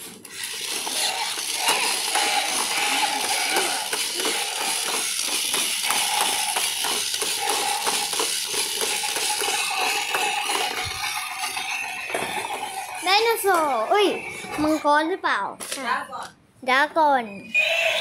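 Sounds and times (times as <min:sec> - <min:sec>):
toy motor whirring: 0:00.0 - 0:15.0, 0:17.5 - 0:18.0.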